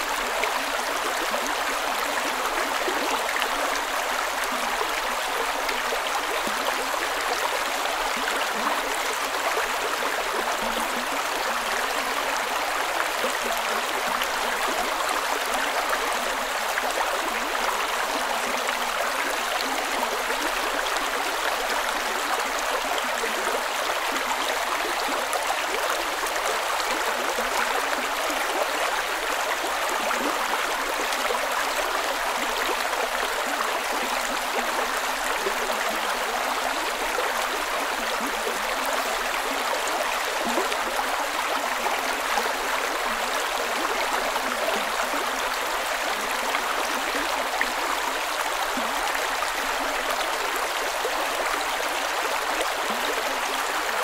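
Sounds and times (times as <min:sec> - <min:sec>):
creek water gurgling over rocks: 0:00.0 - 0:54.0.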